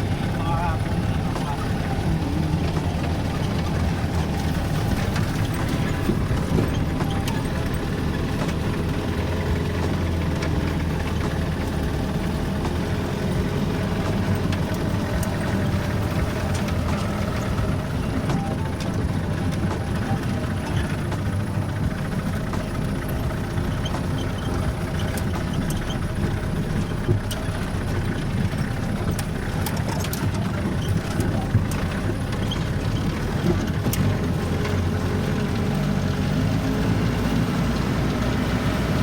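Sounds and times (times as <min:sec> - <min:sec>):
low drone of road noise: 0:00.0 - 0:39.0
vehicle engine running: 0:00.0 - 0:39.0.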